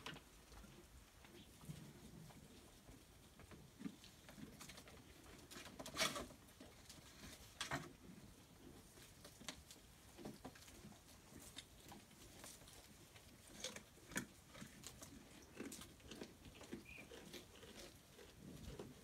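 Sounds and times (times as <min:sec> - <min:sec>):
goats crunching dry stalks: 0:00.0 - 0:19.0.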